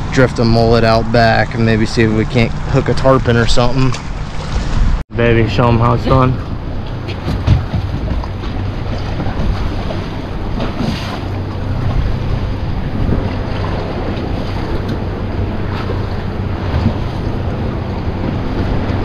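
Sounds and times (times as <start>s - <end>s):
choppy water: 0.0s - 19.0s
wind buffeting microphone: 0.0s - 19.0s.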